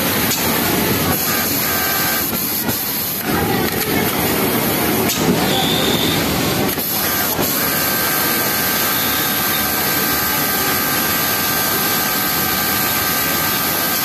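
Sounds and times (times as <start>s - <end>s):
industrial sewing machine whining: 0.0s - 14.0s.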